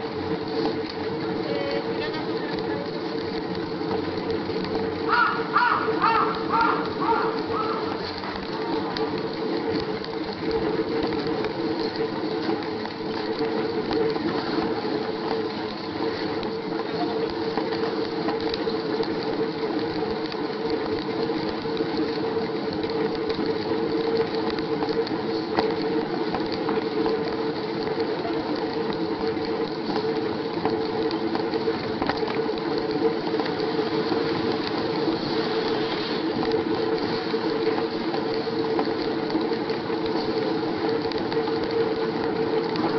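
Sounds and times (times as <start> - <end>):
bicycle gear ticking and rattling: 0.0 - 42.9.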